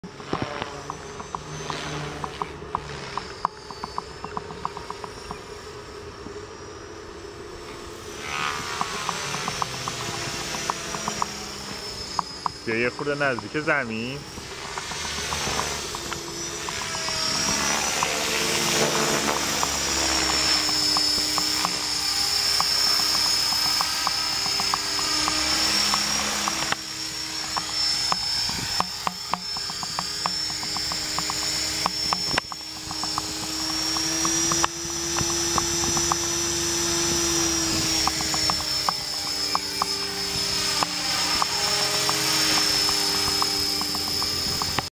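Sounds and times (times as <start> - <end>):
low hum: 0.0 - 44.9
model helicopter whine: 0.0 - 44.9.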